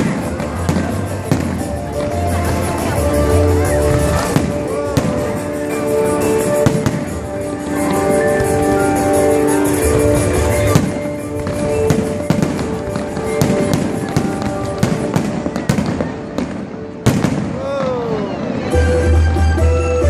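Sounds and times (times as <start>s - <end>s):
fireworks bangs and crackles: 0.0s - 18.7s
music with long held notes: 0.0s - 20.0s.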